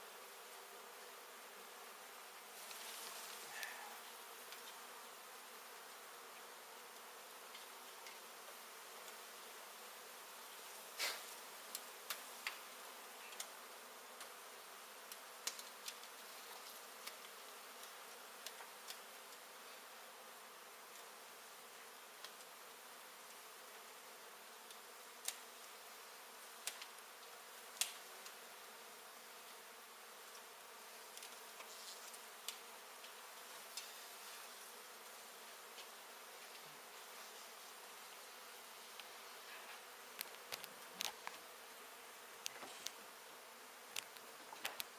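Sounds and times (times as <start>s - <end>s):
honey bees buzzing: 0.0s - 44.9s.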